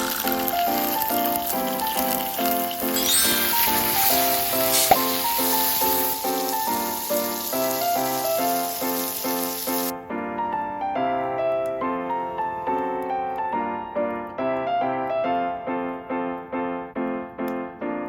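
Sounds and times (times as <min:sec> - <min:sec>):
piano tune: 0:00.0 - 0:18.0.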